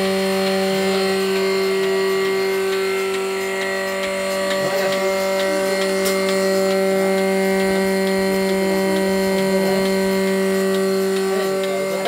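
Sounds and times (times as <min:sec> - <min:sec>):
faint regular ticks: 0:00.0 - 0:12.0
milking machine motor humming: 0:00.0 - 0:12.0.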